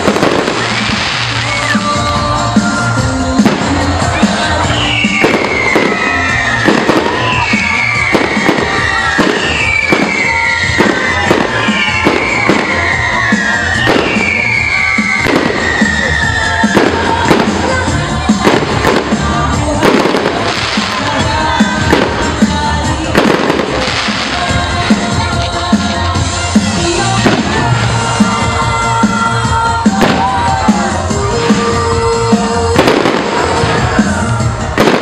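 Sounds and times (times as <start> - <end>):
fireworks bangs and crackles: 0.0 - 35.0
music playing: 0.0 - 35.0.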